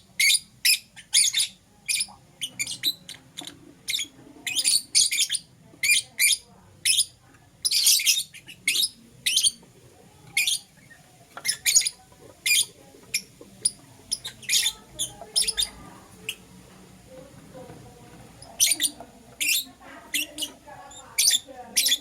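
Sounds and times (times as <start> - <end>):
lovebirds chirping and squawking: 0.1 - 22.0.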